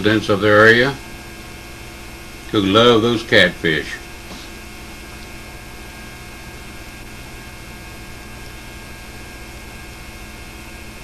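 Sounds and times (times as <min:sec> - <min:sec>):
electrical mains hum with hiss: 0:00.0 - 0:11.0.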